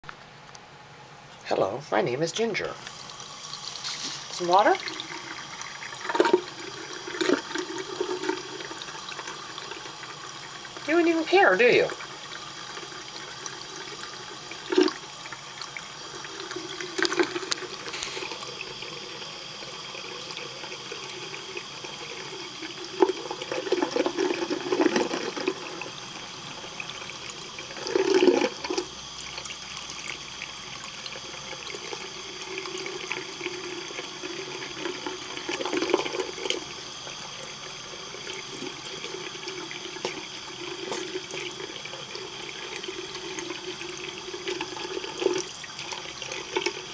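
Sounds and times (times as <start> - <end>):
tap water running into a sink: 2.8 - 46.9.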